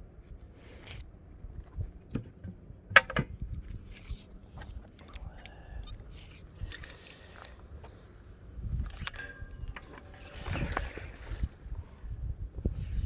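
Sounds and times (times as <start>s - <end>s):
wind rumble on microphone: 0.0s - 6.9s, 7.7s - 13.0s.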